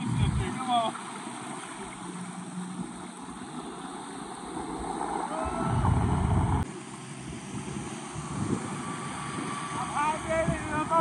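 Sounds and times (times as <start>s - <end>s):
wind on microphone: 0.0s - 0.6s, 2.6s - 11.0s
outboard motor running: 0.0s - 11.0s
water wash: 0.0s - 11.0s.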